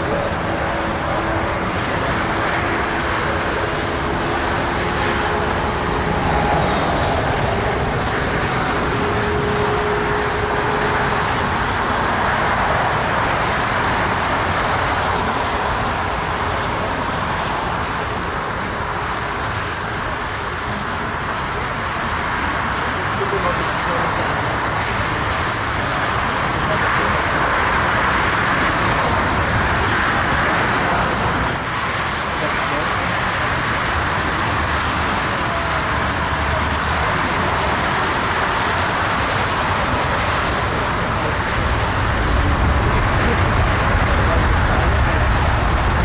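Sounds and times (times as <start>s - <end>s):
jet engines rushing drone: 0.0s - 46.0s.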